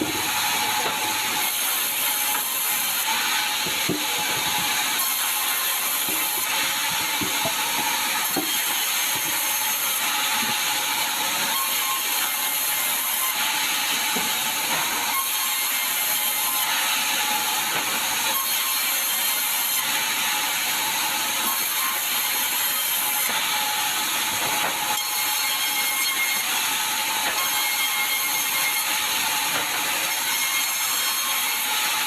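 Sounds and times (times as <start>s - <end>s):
sawmill saw running: 0.0s - 32.0s.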